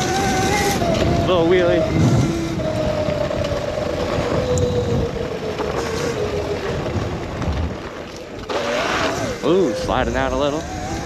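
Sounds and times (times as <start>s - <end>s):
electric motor whining: 0.0s - 11.0s
steady rushing noise: 0.0s - 11.0s.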